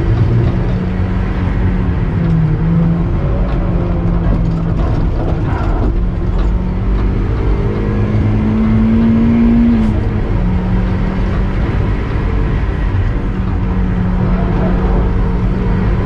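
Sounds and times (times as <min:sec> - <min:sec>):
car engine under load: 0:00.0 - 0:16.0
road noise rushing: 0:00.0 - 0:16.0.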